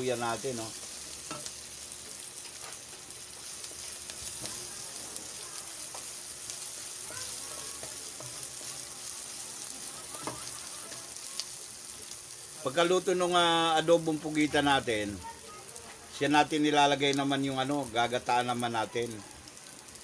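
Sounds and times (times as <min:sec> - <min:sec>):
aromatics sizzling in hot oil: 0:00.0 - 0:20.0.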